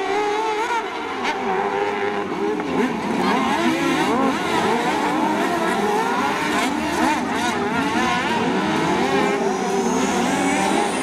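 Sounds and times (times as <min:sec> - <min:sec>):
racing lawn mower engines: 0:00.0 - 0:11.0.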